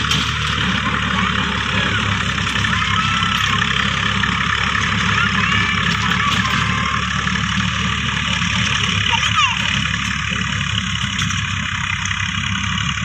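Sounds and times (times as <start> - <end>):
motor running steadily: 0.0 - 13.0.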